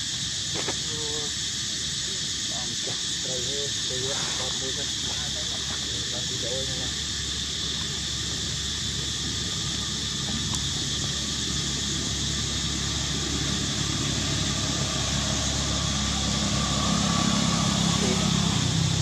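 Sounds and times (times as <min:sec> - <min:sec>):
constant high hiss: 0:00.0 - 0:19.0
low engine hum: 0:01.4 - 0:19.0.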